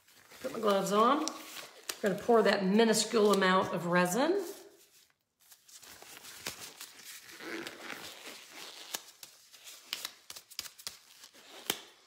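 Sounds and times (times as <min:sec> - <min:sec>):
gloves rustling and crinkling: 0:00.0 - 0:12.0.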